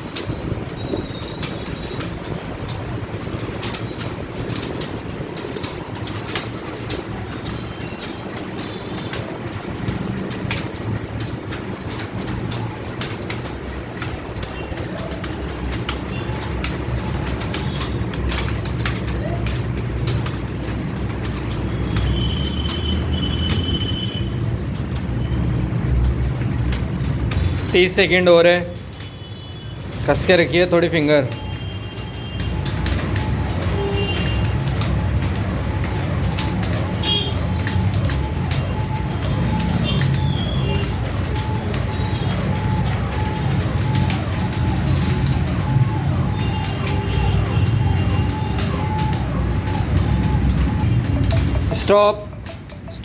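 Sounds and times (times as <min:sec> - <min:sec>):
many keyboards clattering: 0:00.0 - 0:53.0.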